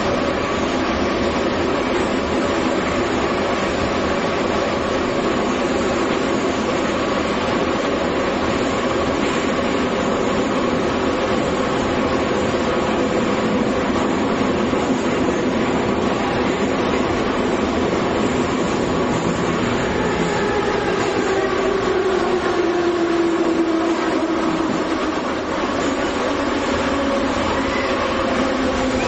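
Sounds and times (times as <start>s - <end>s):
train running inside carriage: 0.0s - 29.0s.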